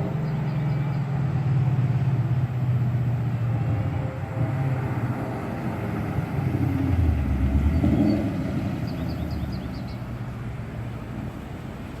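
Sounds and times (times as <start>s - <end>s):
car engine through loud exhaust: 0.0s - 12.0s.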